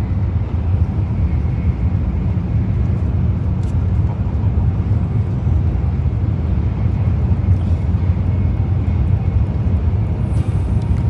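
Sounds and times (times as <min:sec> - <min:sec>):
train running at speed rumble: 0:00.0 - 0:11.0.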